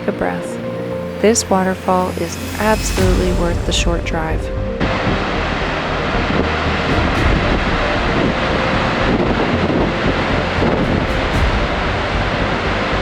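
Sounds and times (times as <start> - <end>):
waterfall rushing: 0.5 - 13.0
wind rumbling on microphone: 2.6 - 13.0.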